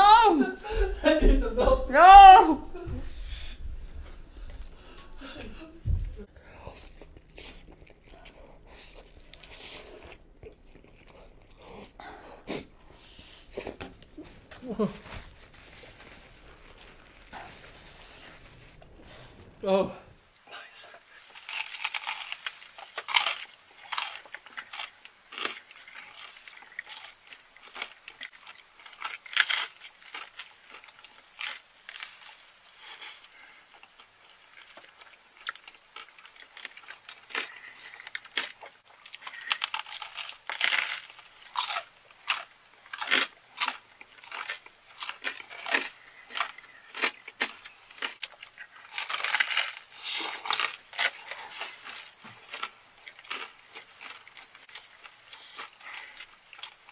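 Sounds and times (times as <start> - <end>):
people biting and chewing food: 3.1 - 19.6, 21.2 - 56.9.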